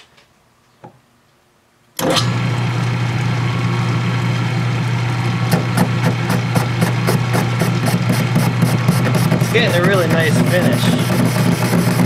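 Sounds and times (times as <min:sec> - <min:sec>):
metal lathe humming: 0:02.0 - 0:12.0.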